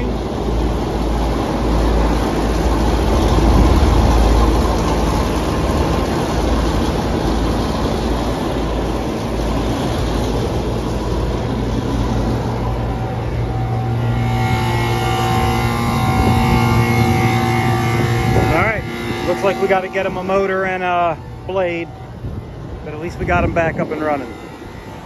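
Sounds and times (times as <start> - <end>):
air conditioning unit humming: 0.0 - 25.0.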